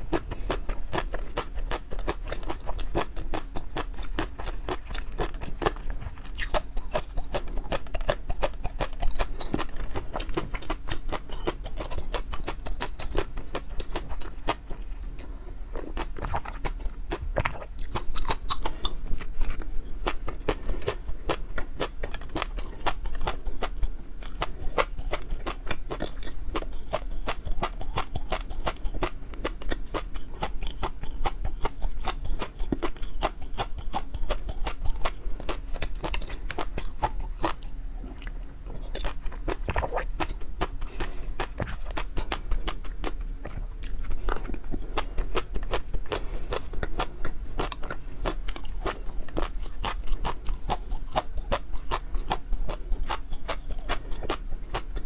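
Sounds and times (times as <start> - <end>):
low steady hum: 0.0 - 55.0
person chewing food: 0.0 - 55.0.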